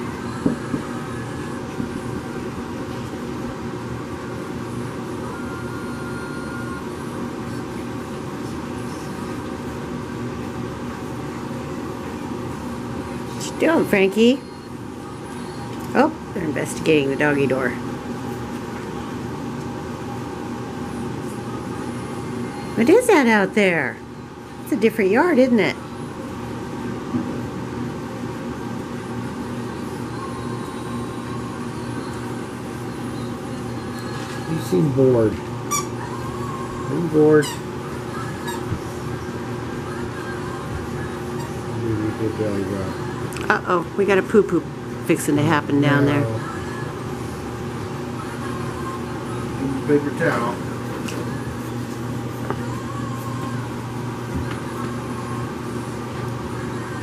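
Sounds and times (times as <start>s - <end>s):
low machine hum: 0.0s - 57.0s
steady mechanical drone: 0.0s - 57.0s.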